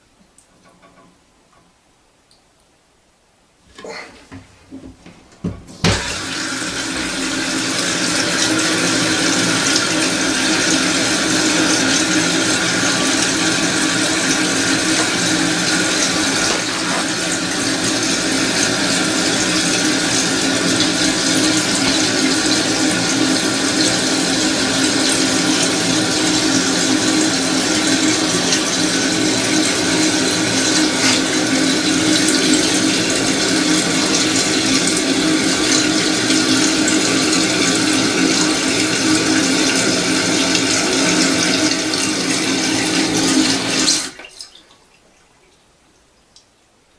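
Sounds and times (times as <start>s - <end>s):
water rushing into toilet tank: 3.7s - 45.2s.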